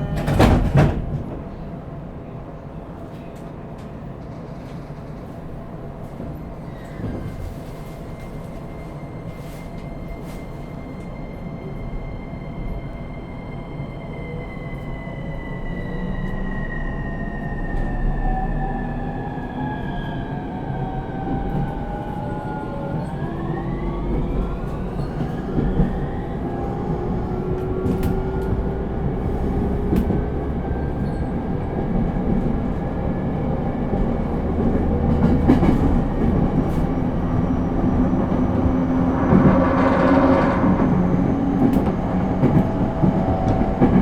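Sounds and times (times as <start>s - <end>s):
train wheel and rail rumble: 0.0s - 44.0s.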